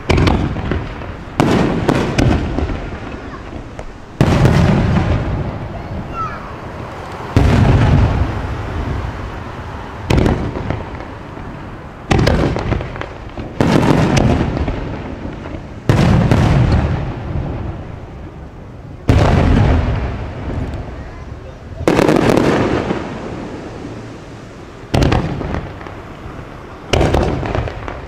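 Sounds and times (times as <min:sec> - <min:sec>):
firework shells booming: 0:00.0 - 0:06.6, 0:07.3 - 0:09.3, 0:10.0 - 0:21.1, 0:21.8 - 0:24.0, 0:24.8 - 0:28.0
firework crackling: 0:00.0 - 0:28.0.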